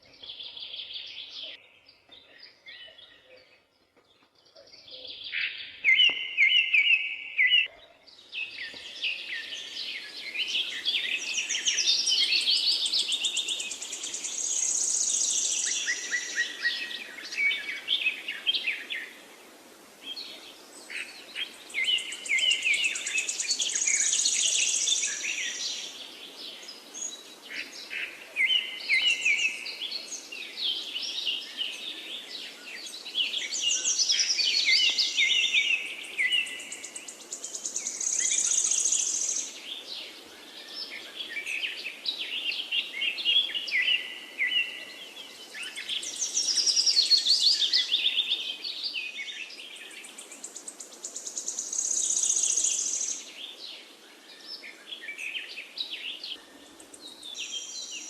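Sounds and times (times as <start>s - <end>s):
songbirds singing: 0.0s - 58.0s
faint steady hiss: 5.2s - 58.0s.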